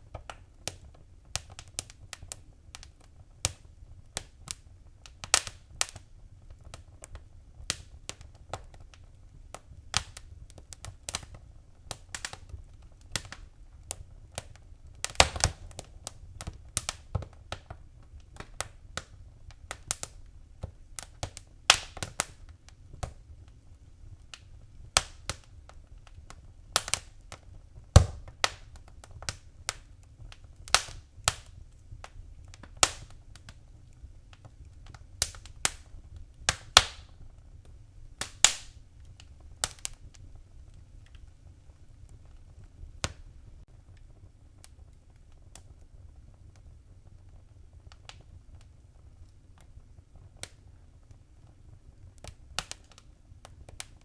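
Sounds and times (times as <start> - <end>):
faint low fire rumble: 0.0 - 54.0
wood fire crackling: 0.0 - 54.0.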